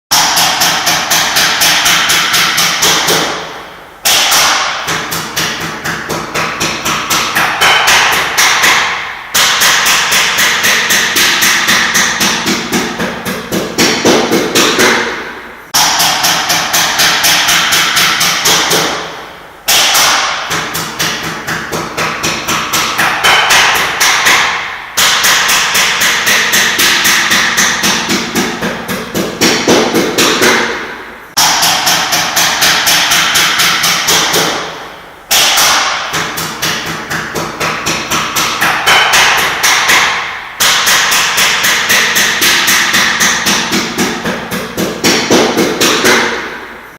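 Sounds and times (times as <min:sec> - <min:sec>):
hammer striking rapidly: 0:00.1 - 0:46.8.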